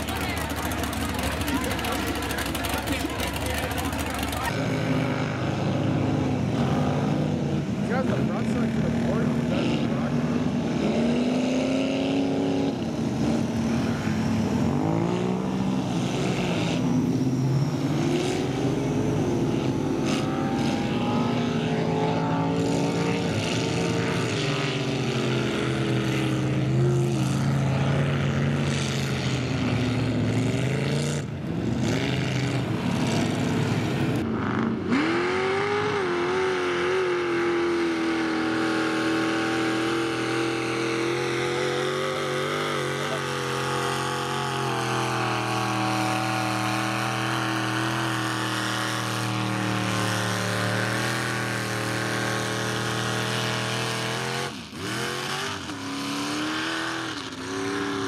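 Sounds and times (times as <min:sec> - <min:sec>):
truck engines revving in mud: 0:00.0 - 0:58.0.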